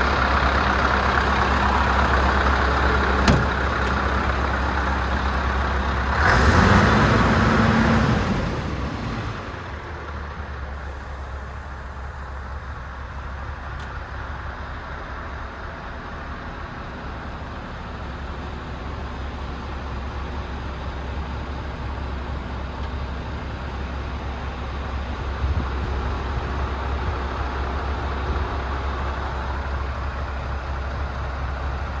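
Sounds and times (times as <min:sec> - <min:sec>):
diesel truck engine revving and idling: 0:00.0 - 0:32.0.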